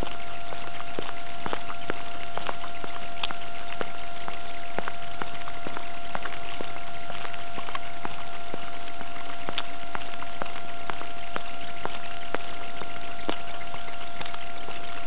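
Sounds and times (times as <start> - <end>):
constant high whine: 0.0 - 15.0.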